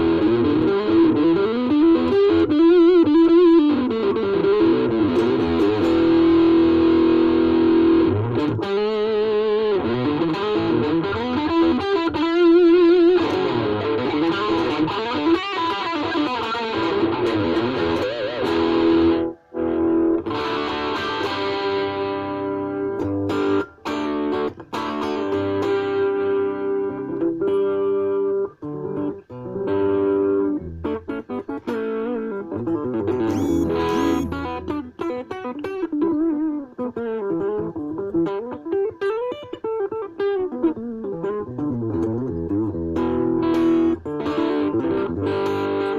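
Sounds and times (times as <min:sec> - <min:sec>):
electric guitar notes with vibrato: 0:00.0 - 0:45.9
picked electric guitar notes: 0:00.0 - 0:45.9.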